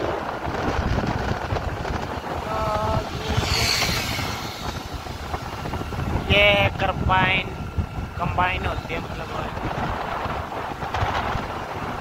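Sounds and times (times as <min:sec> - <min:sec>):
road and motor noise: 0:00.0 - 0:12.0
wind buffeting microphone: 0:00.0 - 0:12.0.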